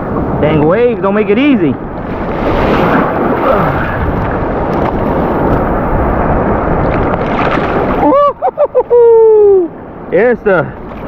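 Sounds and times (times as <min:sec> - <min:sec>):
surf waves breaking: 0:00.0 - 0:11.0.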